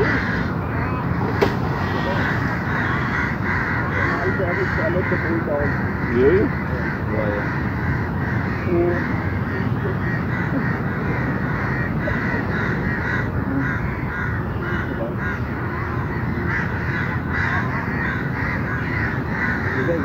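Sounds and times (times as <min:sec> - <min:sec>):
crows cawing: 0:00.0 - 0:20.0
low background noise: 0:00.0 - 0:20.0.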